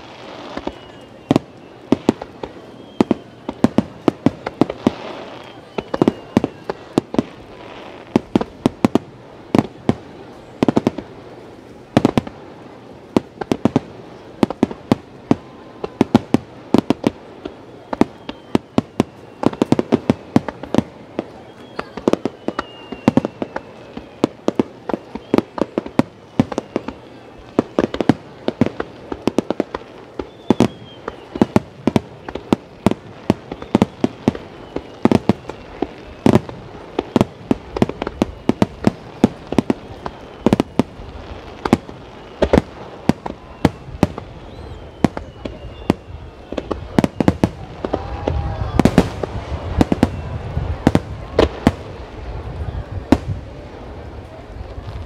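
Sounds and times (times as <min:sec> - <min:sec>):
faint falling firework whistles: 0:00.0 - 0:12.4, 0:14.2 - 0:53.4.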